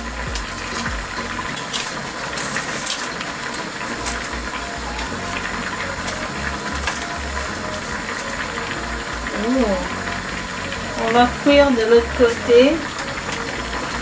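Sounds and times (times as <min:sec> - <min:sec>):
fish sizzling in oil: 0:00.0 - 0:14.0
sharp crackles: 0:00.0 - 0:14.0.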